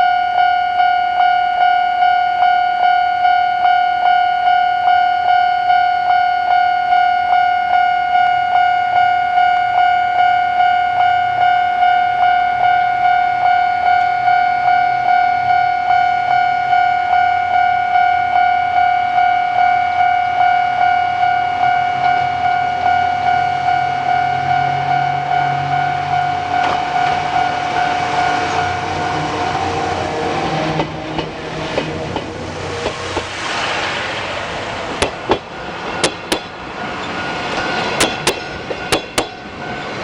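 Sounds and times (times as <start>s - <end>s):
level-crossing alarm ringing: 0.0s - 29.5s, 35.7s - 40.0s.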